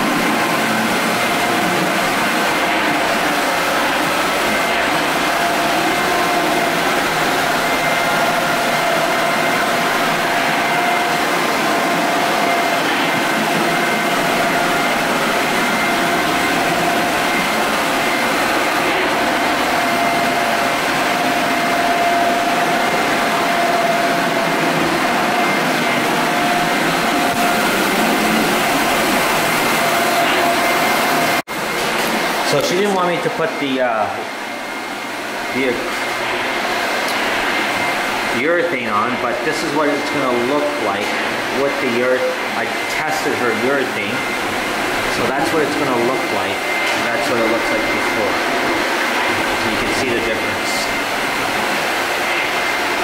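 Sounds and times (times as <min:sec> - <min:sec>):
floor machine motor whining: 0:00.0 - 0:53.0.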